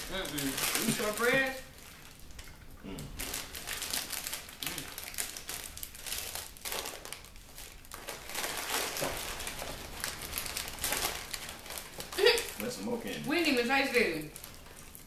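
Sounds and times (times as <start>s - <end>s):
chips crunching while chewed: 0.0s - 12.9s
snack packaging crinkling: 0.0s - 15.0s.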